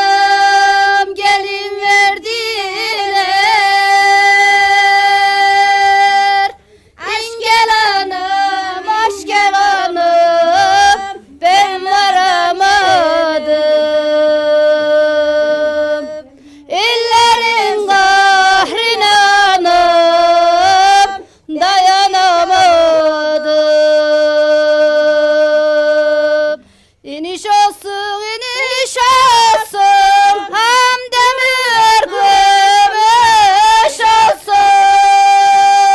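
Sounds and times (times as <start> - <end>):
women singing unaccompanied: 0.0 - 35.9.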